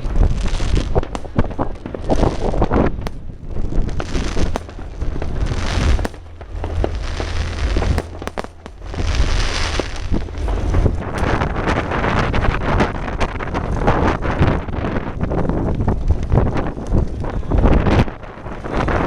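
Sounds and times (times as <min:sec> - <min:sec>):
fireworks bangs and cracks: 0:00.0 - 0:19.0
wind rumble on microphone: 0:00.0 - 0:19.0.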